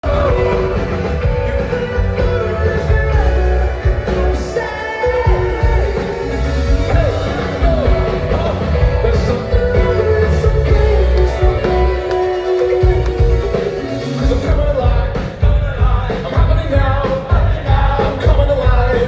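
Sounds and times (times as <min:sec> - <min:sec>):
person singing: 0:00.0 - 0:19.0
rock band playing live: 0:00.0 - 0:19.0.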